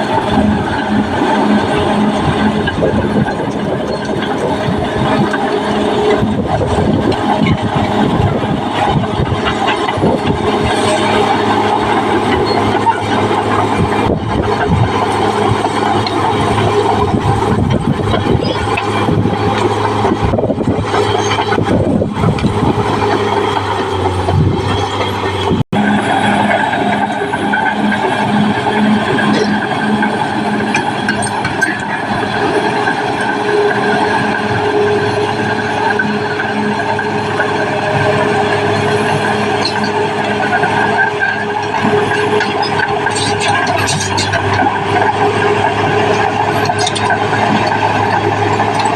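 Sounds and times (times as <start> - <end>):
bulldozer diesel engine running: 0.0 - 48.9
steel tracks squealing and clanking: 0.0 - 48.9.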